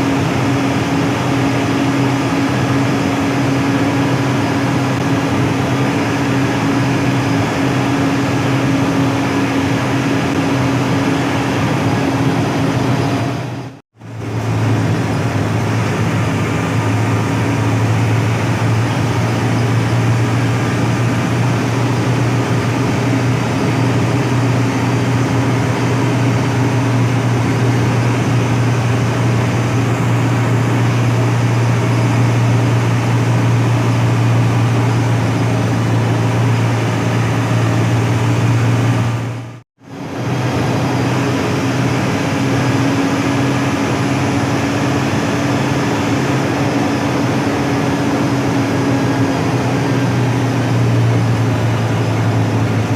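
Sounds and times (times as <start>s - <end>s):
bus engine drone: 0.0s - 52.9s
road and cabin noise: 0.0s - 52.9s.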